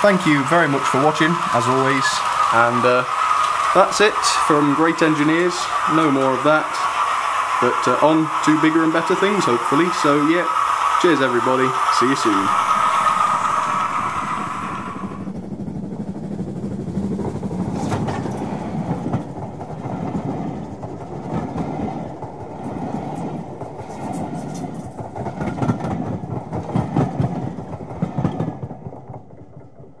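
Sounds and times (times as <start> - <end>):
train wheels clicking over rail joints: 0.0 - 30.0.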